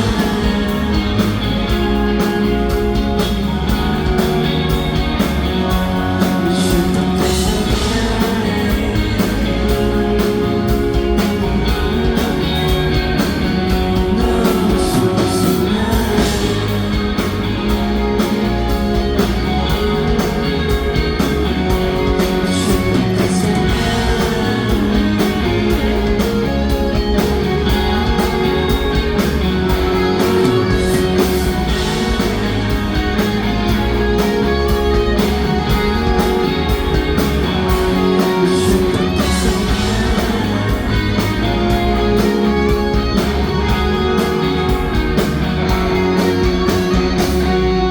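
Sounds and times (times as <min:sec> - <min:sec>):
electric guitars: 0:00.0 - 0:47.9
steady drum beat: 0:00.0 - 0:47.9.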